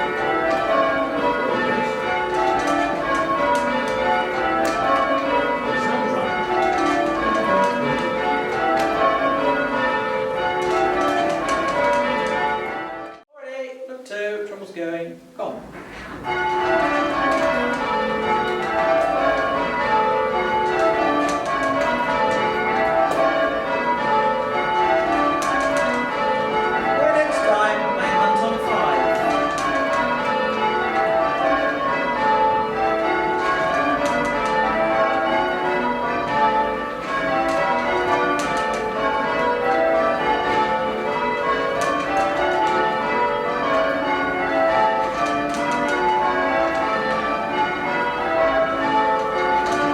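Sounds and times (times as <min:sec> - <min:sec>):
church bells change ringing: 0:00.0 - 0:13.2, 0:15.9 - 0:49.9.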